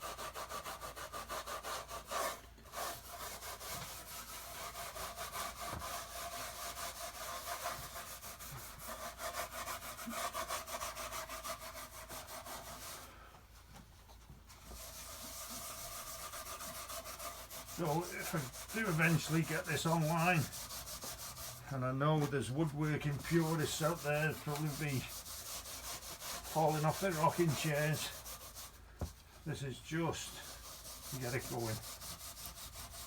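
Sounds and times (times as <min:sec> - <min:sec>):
wax rubbed into wood: 0:00.0 - 0:13.7, 0:14.4 - 0:33.0.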